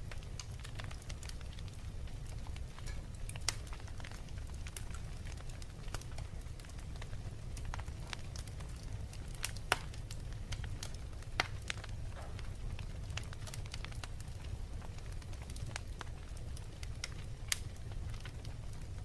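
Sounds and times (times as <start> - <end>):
fire popping: 0.0 - 19.0
wood fire crackling: 0.0 - 19.0.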